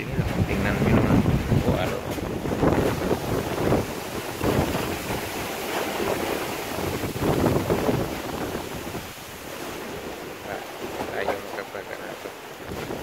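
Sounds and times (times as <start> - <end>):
waves washing against boat hull: 0.0 - 13.0
wind buffeting microphone: 0.0 - 13.0.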